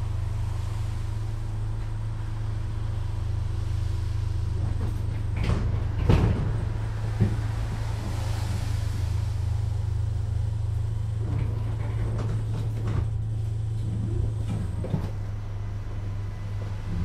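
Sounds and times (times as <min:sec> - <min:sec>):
light-rail car hum: 0:00.0 - 0:17.0.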